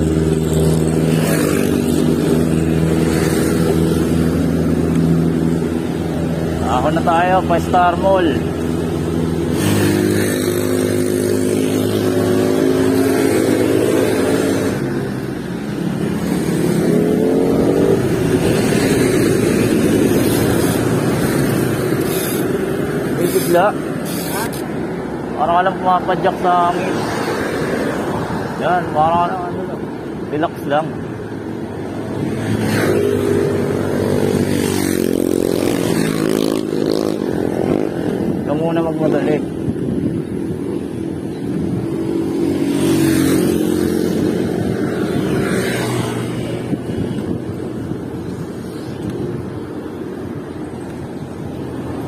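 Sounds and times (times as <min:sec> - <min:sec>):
road and wind noise: 0:00.0 - 0:52.0.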